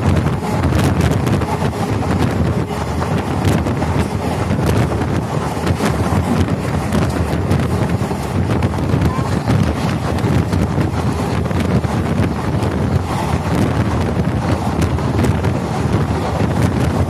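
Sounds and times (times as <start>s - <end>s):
train coach rumbling on track: 0.0s - 17.0s
wheels clicking on rail joints: 0.0s - 17.0s
wind buffeting microphone: 0.0s - 17.0s.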